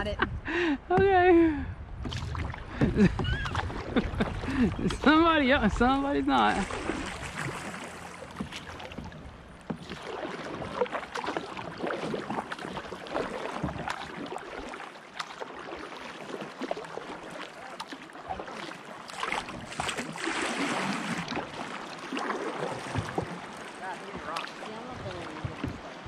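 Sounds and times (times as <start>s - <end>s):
water slapping hull: 1.9s - 26.0s
paddle strokes splashing: 2.0s - 26.0s.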